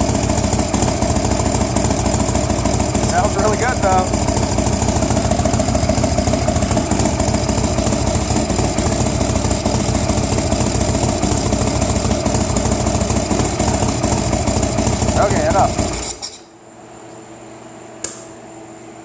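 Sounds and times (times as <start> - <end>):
engine idling: 0.0 - 16.2.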